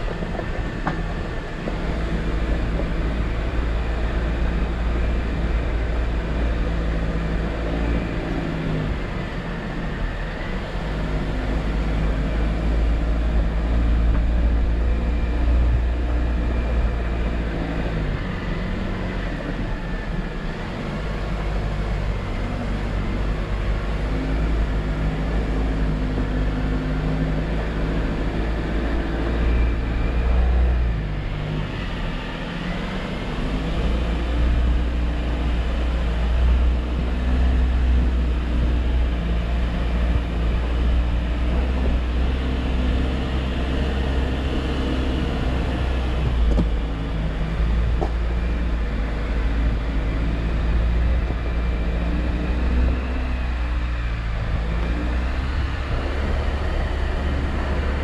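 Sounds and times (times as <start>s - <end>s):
car engine revving off-road: 0.0s - 58.0s.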